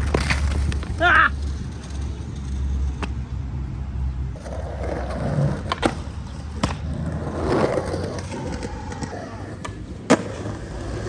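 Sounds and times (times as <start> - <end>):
skateboard clacks: 0.0 - 3.2, 4.4 - 11.0
skateboard wheels rolling on concrete: 0.0 - 11.0.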